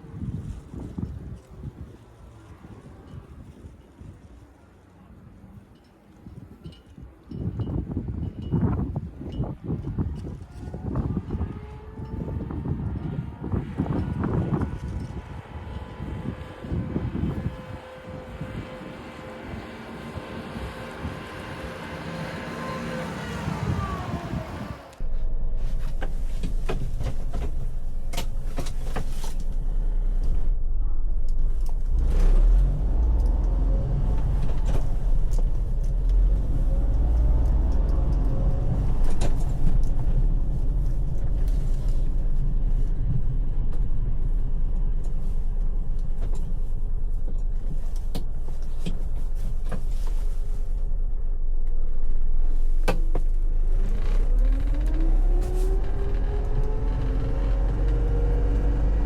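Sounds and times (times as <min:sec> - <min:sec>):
low road rumble: 0:00.0 - 0:59.0
truck engine running: 0:09.7 - 0:59.0.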